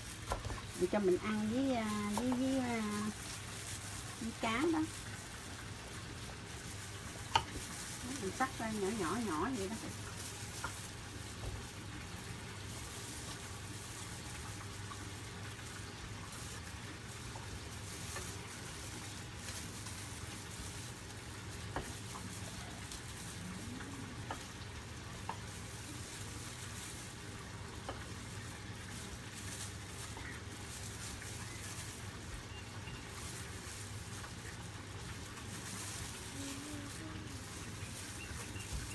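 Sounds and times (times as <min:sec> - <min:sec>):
fish frying in oil: 0:00.0 - 0:38.9.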